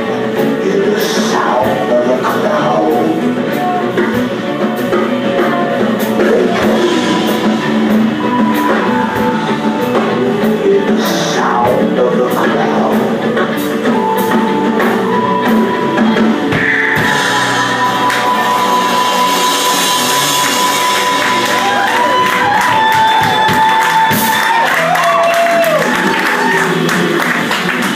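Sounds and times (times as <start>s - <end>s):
person singing: 0.0s - 27.3s
live rock band playing: 0.0s - 27.9s.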